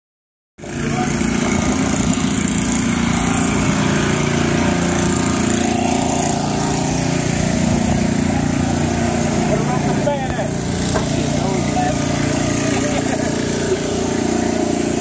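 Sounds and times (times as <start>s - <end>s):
small engine droning: 0.6s - 15.0s.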